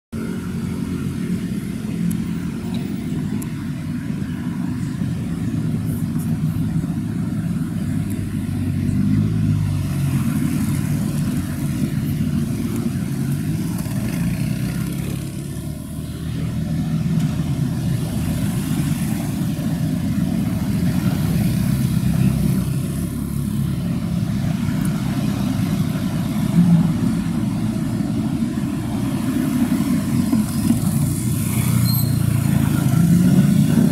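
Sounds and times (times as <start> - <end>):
road traffic rumble: 0.1 - 33.9
vehicles passing: 0.2 - 33.9.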